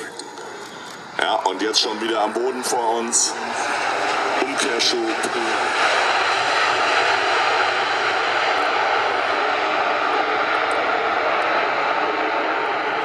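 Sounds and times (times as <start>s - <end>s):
jet engines in reverse thrust: 0.0s - 13.0s.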